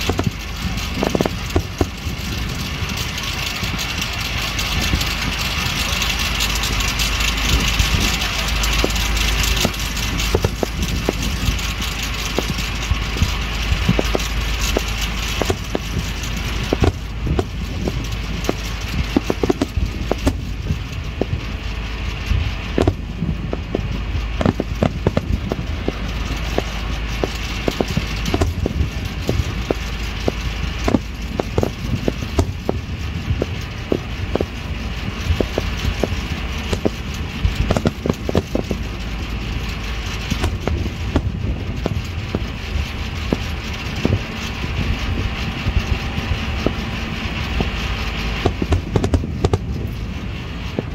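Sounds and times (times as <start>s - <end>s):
fireworks bursting: 0.0s - 50.9s
low rumble: 0.0s - 50.9s.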